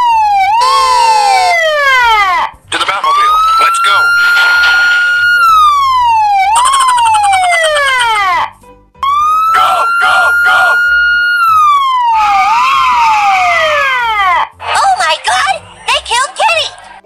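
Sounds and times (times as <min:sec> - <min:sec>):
emergency siren wailing: 0:00.0 - 0:14.6
background music beat: 0:00.0 - 0:16.7.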